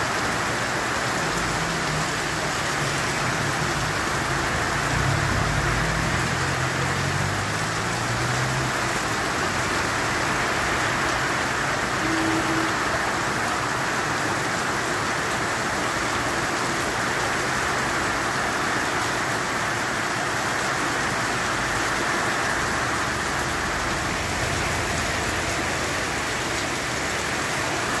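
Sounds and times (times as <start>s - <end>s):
heavy rain on street and roofs: 0.0s - 28.0s.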